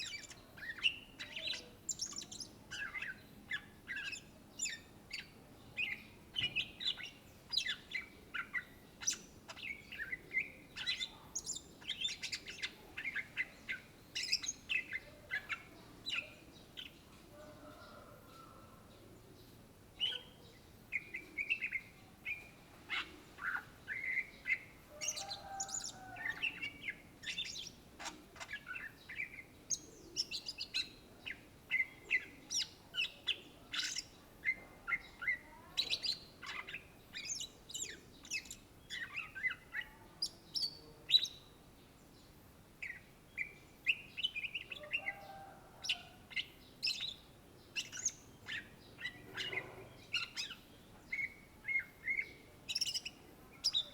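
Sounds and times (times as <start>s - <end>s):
bird singing chirps and trills: 0.0s - 17.0s, 19.4s - 41.6s, 42.8s - 53.9s.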